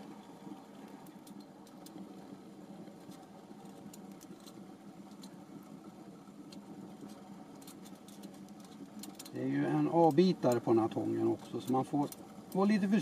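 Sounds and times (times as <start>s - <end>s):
low steady hum: 0.0s - 13.0s
stove fire crackling: 0.0s - 13.0s.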